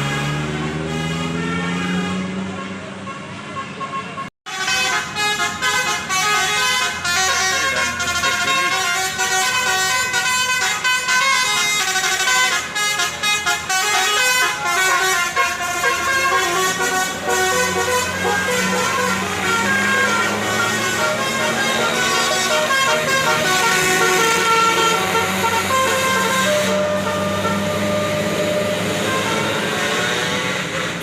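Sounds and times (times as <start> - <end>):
multi-tone air horn tune: 0.0 - 31.0.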